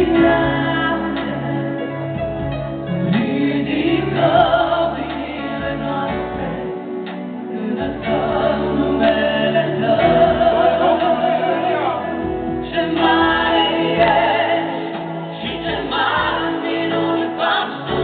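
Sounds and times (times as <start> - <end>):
group singing worship song: 0.0 - 18.0
sustained keyboard accompaniment: 0.0 - 18.0.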